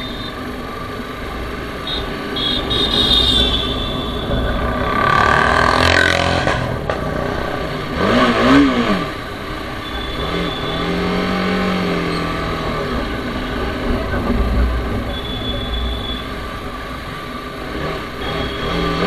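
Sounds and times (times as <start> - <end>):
road and wind noise: 0.0 - 19.0
motorcycle engine revving: 2.4 - 19.0.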